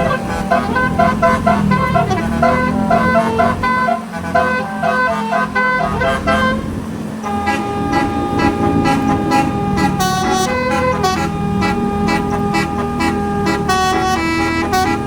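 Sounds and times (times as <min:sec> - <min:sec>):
bus engine drone: 0:00.0 - 0:15.0
musical air horn melody: 0:00.0 - 0:15.0.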